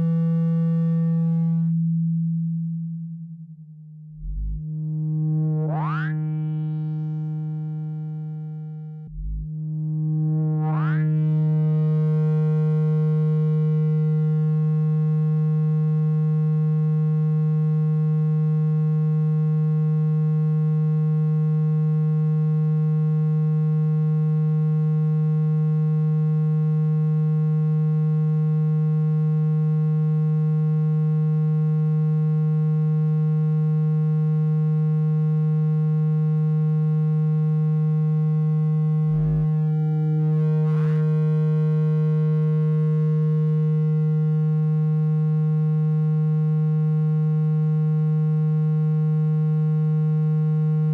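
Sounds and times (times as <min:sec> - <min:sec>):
steady low synthesized tone: 0:00.0 - 0:50.9.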